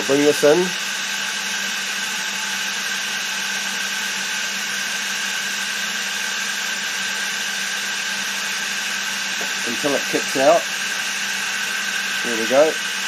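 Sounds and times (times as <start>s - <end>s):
milling machine running: 0.0s - 13.0s.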